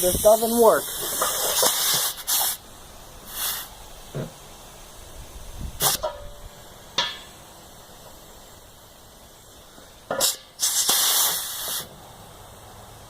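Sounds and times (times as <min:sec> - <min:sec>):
compressed air hissing in bursts: 0:00.0 - 0:12.6.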